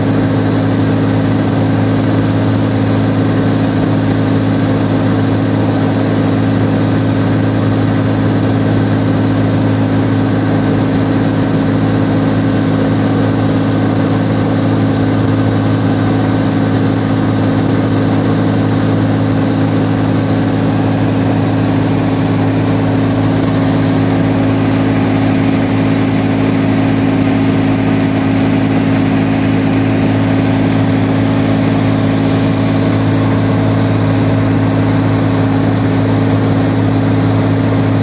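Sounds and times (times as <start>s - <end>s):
airplane engine drone in cabin: 0.0s - 38.0s.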